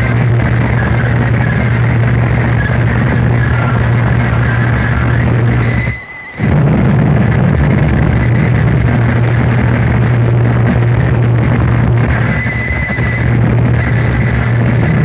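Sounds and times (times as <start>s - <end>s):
distorted noise music: 0.0s - 15.0s
heavy low hum: 0.0s - 15.0s.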